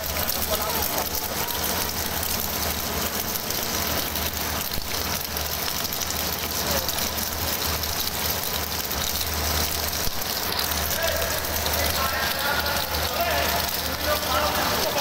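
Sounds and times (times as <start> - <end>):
extruder machine running: 0.0 - 15.0.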